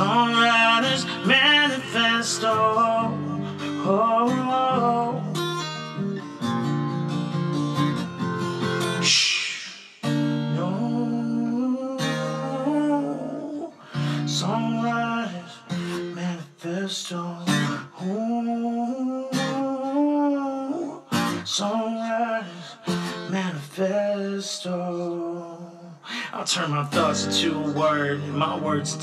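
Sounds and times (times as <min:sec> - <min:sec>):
man singing wordlessly: 0:00.0 - 0:05.6, 0:08.9 - 0:29.0
acoustic guitar strumming: 0:00.0 - 0:25.5, 0:26.2 - 0:29.0.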